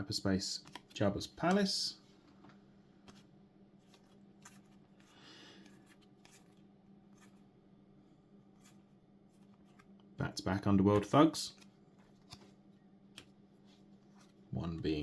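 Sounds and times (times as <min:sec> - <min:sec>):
low steady hum: 0:00.0 - 0:15.0
card rustle: 0:00.6 - 0:07.5, 0:08.5 - 0:10.0, 0:10.8 - 0:14.4.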